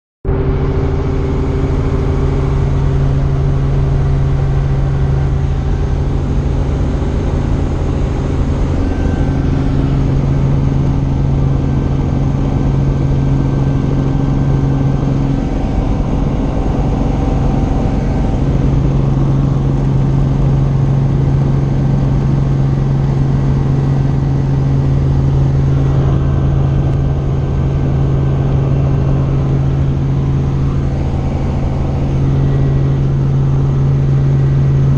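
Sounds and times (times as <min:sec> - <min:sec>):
helicopter engine and rotors: 0:00.3 - 0:34.9.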